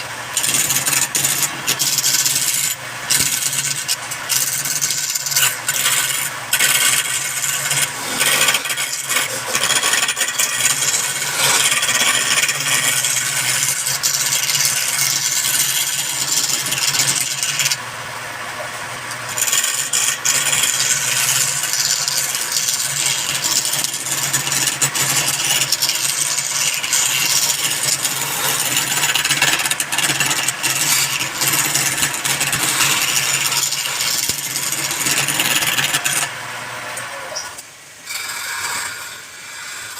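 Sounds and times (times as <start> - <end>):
turning tool scraping wood: 0.0 - 17.8, 19.1 - 36.5, 37.3 - 39.9
wood lathe hum: 0.0 - 36.9, 38.0 - 39.9.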